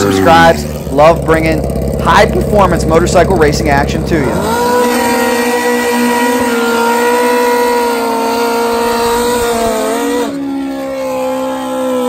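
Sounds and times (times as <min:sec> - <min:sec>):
motorcycle engine revving high: 0:00.0 - 0:12.0
tire spinning: 0:00.0 - 0:12.0.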